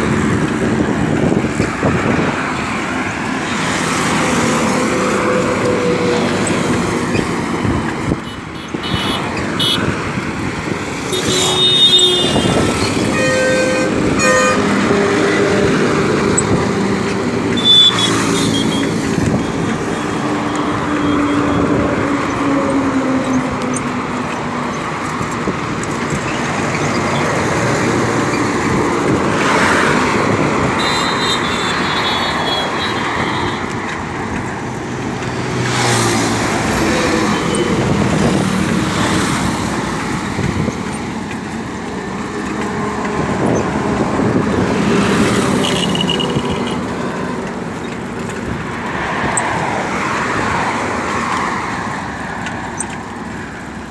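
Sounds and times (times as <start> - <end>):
traffic rushing past: 0.0 - 53.9.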